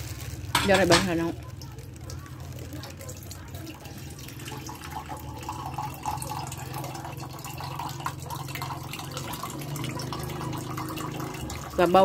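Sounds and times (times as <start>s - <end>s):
water trickling into a mug: 0.4s - 12.0s.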